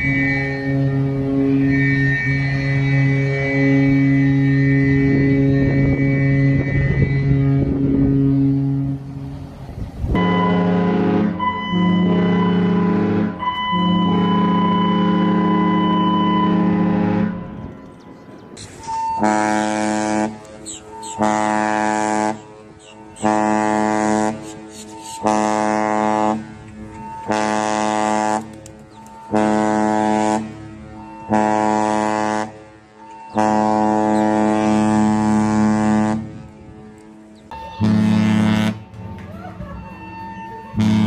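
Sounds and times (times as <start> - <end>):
ship horn blasts: 0.0 - 41.0.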